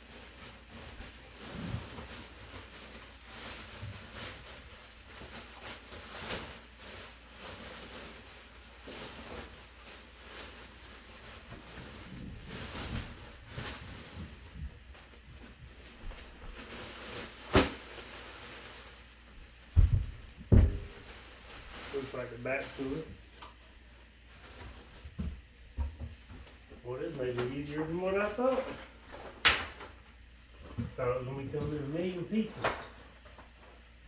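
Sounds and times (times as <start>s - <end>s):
plastic wrapping crinkling: 0.0s - 25.5s, 26.3s - 34.0s.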